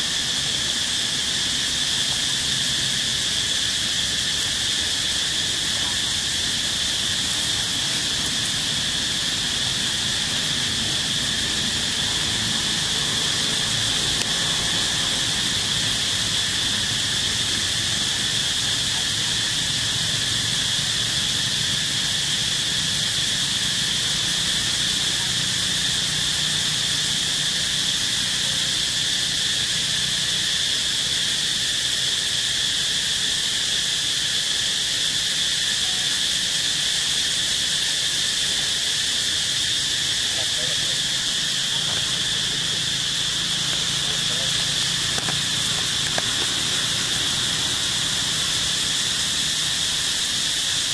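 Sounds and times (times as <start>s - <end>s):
insect chorus shrilling: 0.0s - 50.9s.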